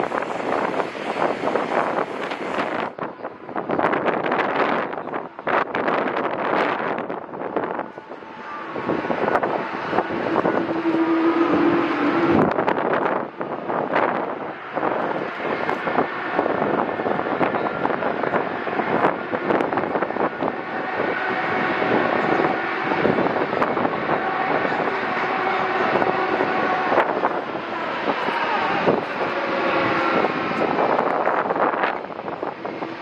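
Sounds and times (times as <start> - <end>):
faint engine whine: 0.0 - 33.0
jet airliner engines rushing: 0.0 - 33.0.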